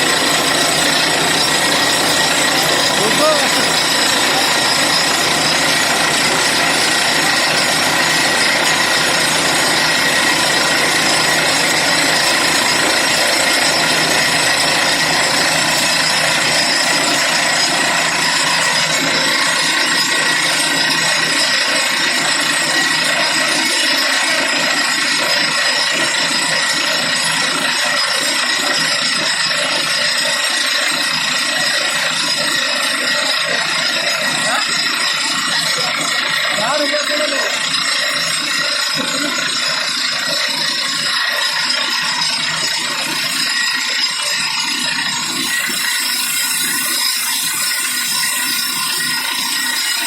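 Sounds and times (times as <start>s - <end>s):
drilling rig with high whine: 0.0s - 50.0s.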